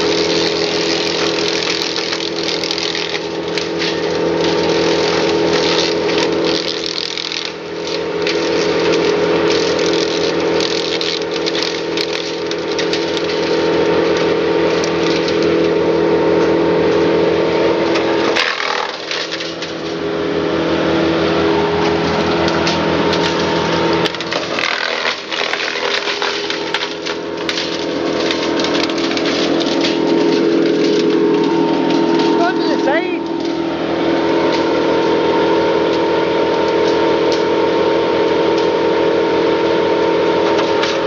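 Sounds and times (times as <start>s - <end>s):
wood cracking and splintering: 0.0s - 17.0s, 17.8s - 20.1s, 21.7s - 37.7s, 40.3s - 41.0s
wood chipper engine running: 0.0s - 41.0s.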